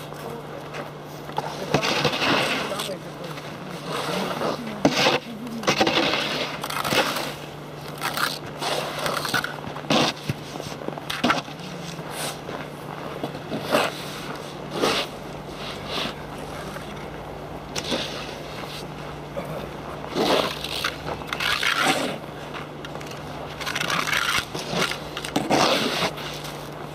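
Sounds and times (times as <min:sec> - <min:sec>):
low steady hum: 0:00.0 - 0:26.9
metal scribe scraping ice: 0:01.4 - 0:12.5, 0:13.5 - 0:16.9, 0:17.7 - 0:18.9, 0:20.0 - 0:22.2, 0:22.9 - 0:26.7.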